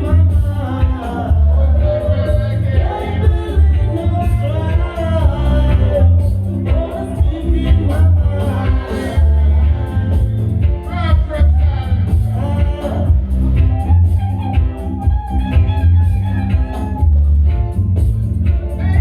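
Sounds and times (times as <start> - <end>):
person singing: 0.0 - 17.4, 18.6 - 19.0
reggae music with heavy bass: 0.0 - 19.0.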